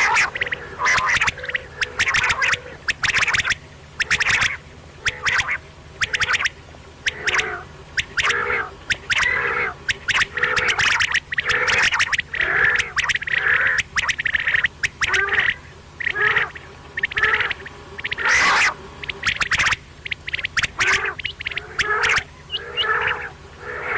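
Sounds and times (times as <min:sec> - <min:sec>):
sharp clicking sounds: 0:00.0 - 0:07.4, 0:08.0 - 0:15.2, 0:16.0 - 0:22.3
quail calling: 0:00.0 - 0:23.9.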